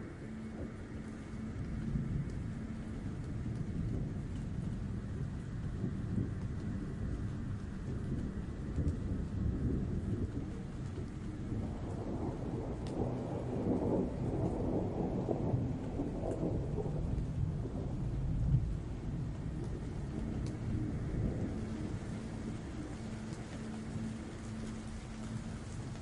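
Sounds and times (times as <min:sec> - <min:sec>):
low rumble: 0:00.0 - 0:26.0
faint ticks: 0:00.4 - 0:09.4, 0:10.0 - 0:13.2, 0:15.8 - 0:17.8, 0:19.3 - 0:26.0.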